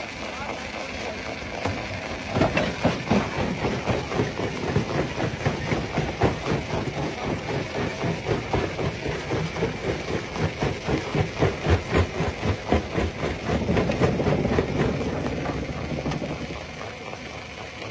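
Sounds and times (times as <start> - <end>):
stone crusher running: 0.0 - 17.9.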